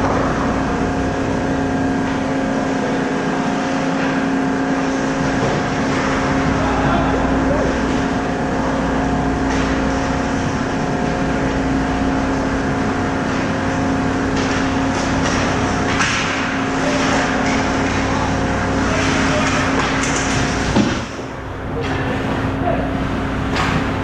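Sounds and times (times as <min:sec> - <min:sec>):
refrigeration plant machinery hum: 0:00.0 - 0:24.0.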